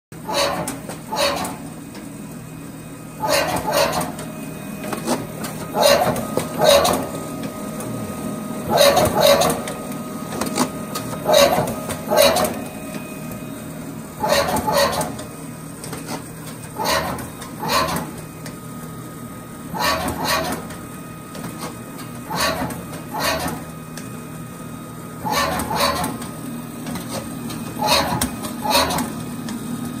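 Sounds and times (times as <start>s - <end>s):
paper cutter motor hum: 0.2s - 30.0s.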